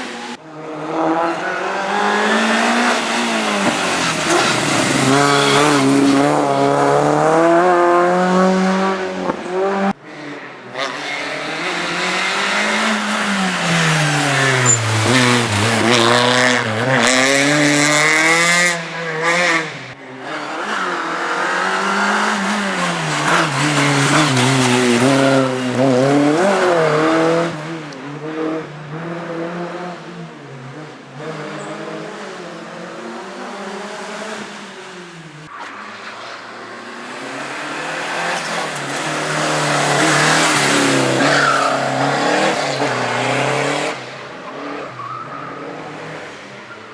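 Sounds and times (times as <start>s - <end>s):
race car engine revving: 0.0s - 30.1s, 35.5s - 46.7s.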